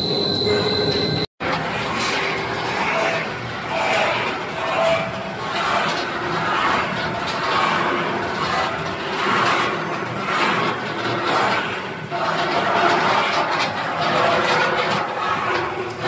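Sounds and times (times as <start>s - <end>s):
production line machinery running: 0.0s - 16.0s.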